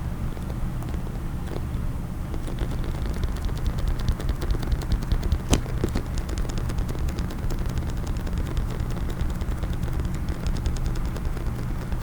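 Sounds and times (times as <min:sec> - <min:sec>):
fingernails tapping on hard case: 0:02.3 - 0:12.0.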